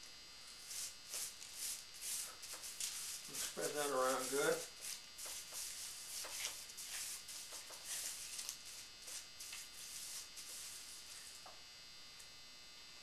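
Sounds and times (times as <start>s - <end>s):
gloved hand rubbing meat: 0.6s - 11.4s.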